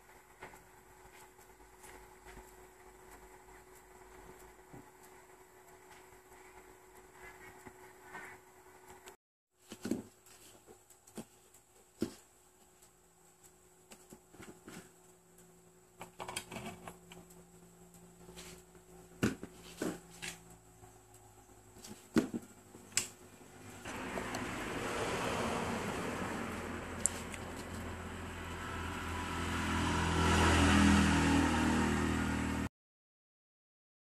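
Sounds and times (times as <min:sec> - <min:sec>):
faint steady hum: 0:00.0 - 0:29.3.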